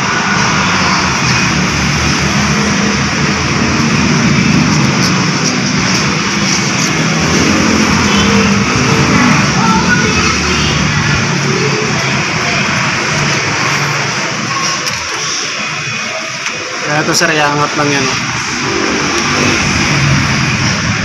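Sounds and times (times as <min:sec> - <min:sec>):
loud mechanical drone: 0:00.0 - 0:21.0.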